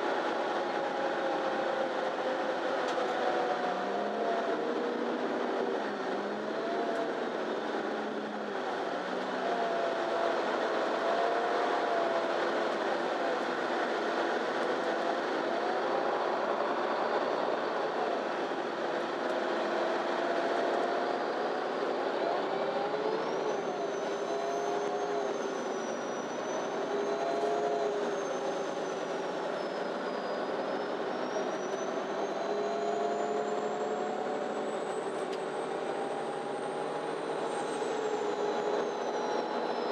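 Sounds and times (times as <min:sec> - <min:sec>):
bus engine and road noise: 0:00.0 - 0:39.9
whining tones: 0:00.1 - 0:39.9.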